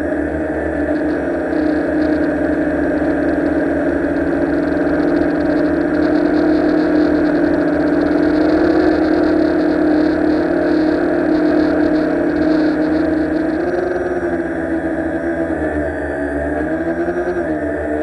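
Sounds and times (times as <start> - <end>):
drone propellers whirring: 0.0 - 18.0.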